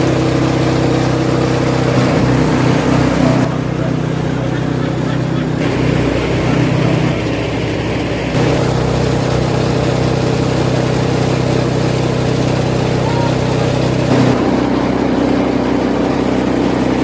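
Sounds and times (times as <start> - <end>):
chopping machine engine running: 0.0 - 17.0.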